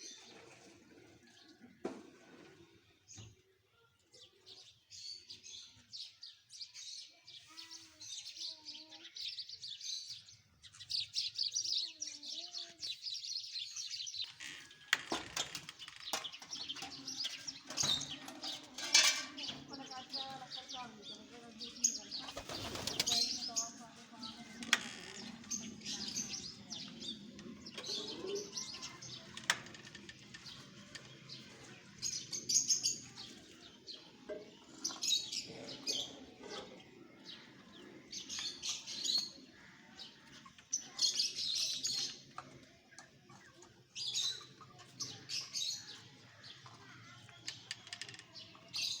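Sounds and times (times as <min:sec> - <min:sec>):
birds chirping: 0:03.0 - 0:49.0.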